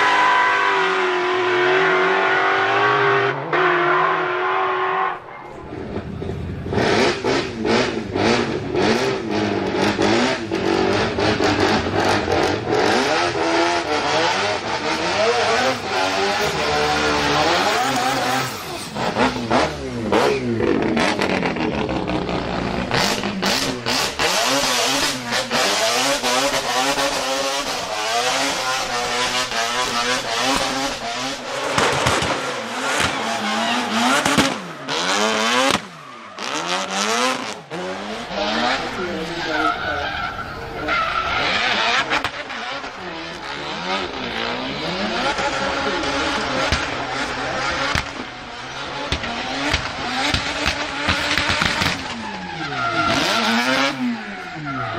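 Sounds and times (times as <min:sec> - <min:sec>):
car engine revving hard: 0:00.0 - 0:54.9.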